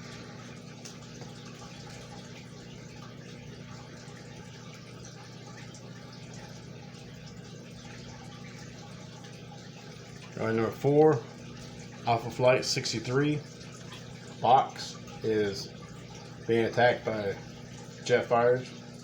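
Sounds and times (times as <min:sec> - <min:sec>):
appliance or fan hum: 0:00.0 - 0:19.0.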